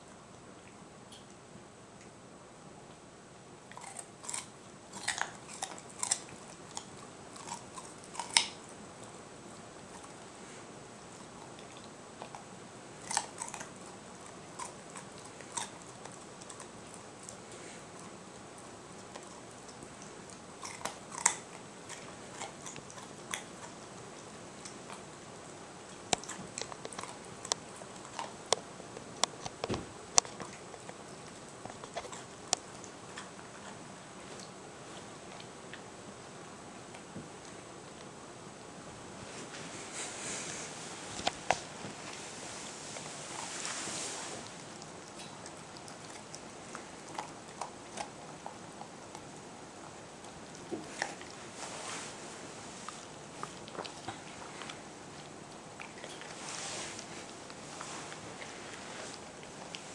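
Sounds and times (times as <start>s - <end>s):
dog crunching carrot: 3.7s - 35.9s, 41.2s - 52.2s, 52.8s - 59.9s.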